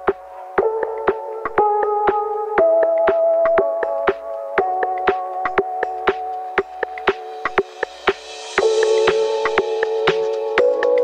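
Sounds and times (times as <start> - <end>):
sharp percussive beat: 0.0 - 11.0
synthesizer chords: 0.0 - 11.0.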